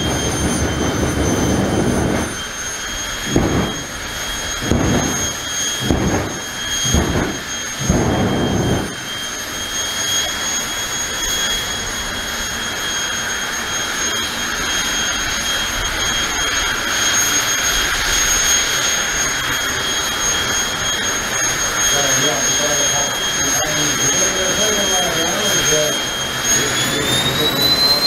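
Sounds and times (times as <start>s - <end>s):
jet engine flame burst: 0.0s - 28.0s
jet engine high whine: 0.0s - 28.0s.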